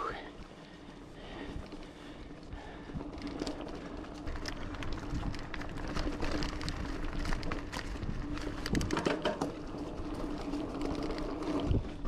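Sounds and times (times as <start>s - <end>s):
bike chain and frame rattling: 1.3s - 12.0s.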